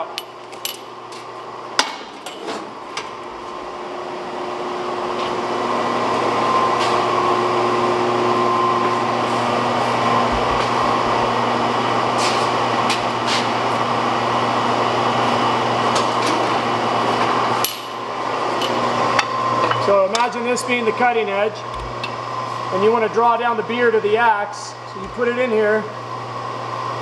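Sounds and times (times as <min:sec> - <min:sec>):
workshop equipment roar: 0:00.0 - 0:27.0.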